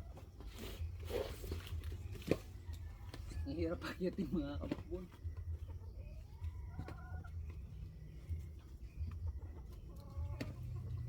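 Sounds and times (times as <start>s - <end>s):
chicken clucking: 0.0s - 11.0s.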